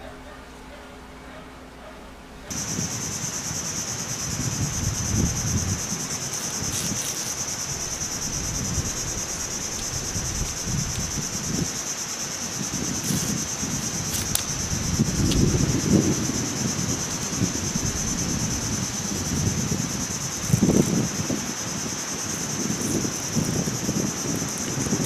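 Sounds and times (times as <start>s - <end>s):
insect chorus: 0.0s - 25.0s
palm frond rustling: 0.0s - 25.0s.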